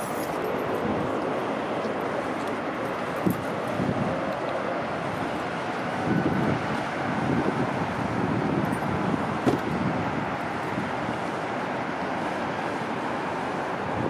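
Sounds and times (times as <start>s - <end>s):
distant jet engines roaring: 0.0s - 14.0s
wind buffeting microphone: 0.0s - 14.0s.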